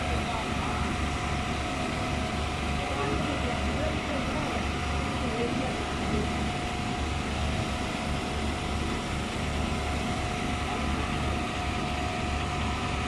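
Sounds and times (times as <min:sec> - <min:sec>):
diesel concrete pump throbbing: 0:00.0 - 0:13.0.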